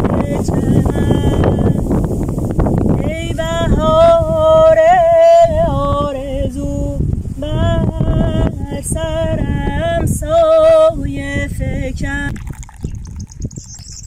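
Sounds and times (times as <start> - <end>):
person singing slow melody: 0.0 - 2.0, 2.9 - 12.4
wind rumble on microphone: 0.0 - 14.0.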